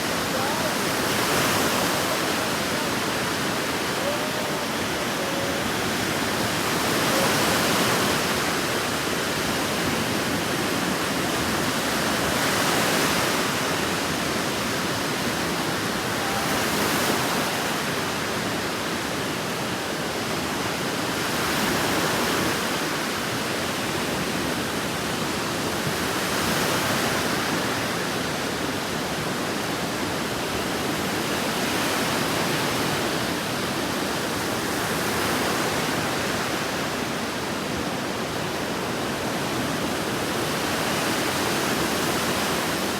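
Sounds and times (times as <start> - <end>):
waves washing onto beach: 0.0 - 42.9.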